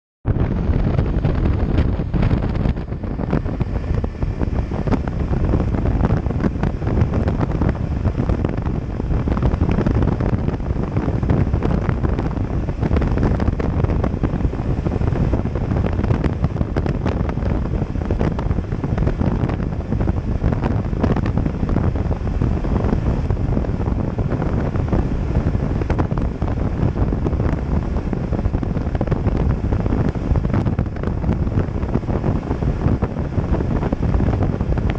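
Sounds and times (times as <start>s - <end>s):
wind buffeting microphone: 0.2s - 34.9s.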